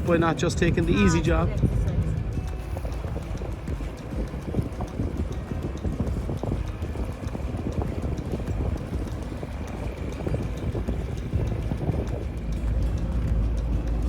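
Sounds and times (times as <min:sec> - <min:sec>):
boat engine running: 0:00.0 - 0:14.0
wind buffeting microphone: 0:00.0 - 0:14.0.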